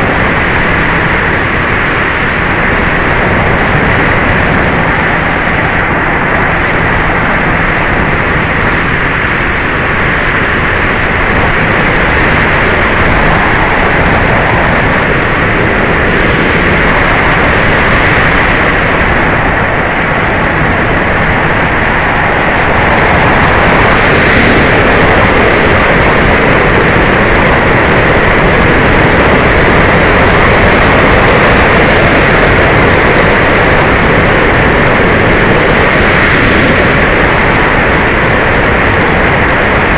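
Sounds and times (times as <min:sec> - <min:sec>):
electric motor and propeller: 0:00.0 - 0:39.9
wind rush: 0:00.0 - 0:39.9.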